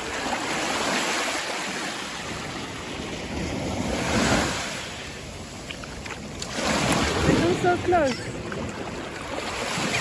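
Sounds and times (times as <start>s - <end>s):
sea water lapping at shore: 0.0s - 10.0s.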